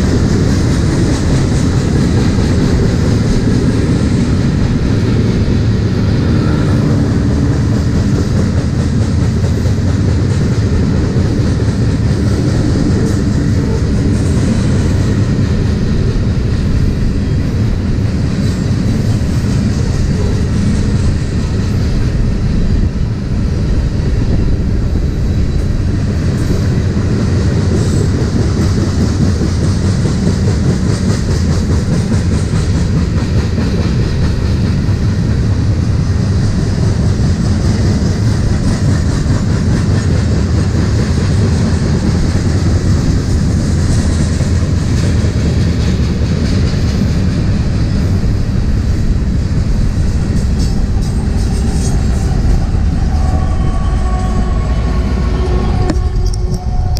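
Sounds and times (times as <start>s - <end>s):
freight train passing: 0.0s - 56.9s.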